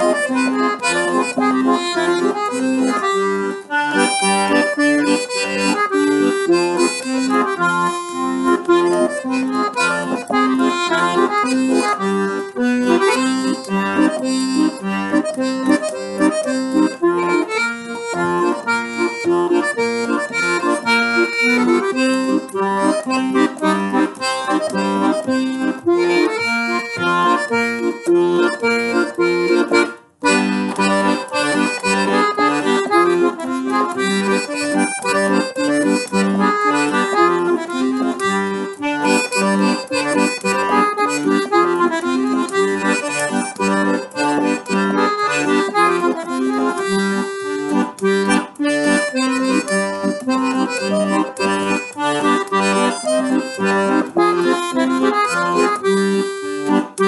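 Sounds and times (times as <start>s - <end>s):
accordion playing lively melody: 0.0s - 57.0s.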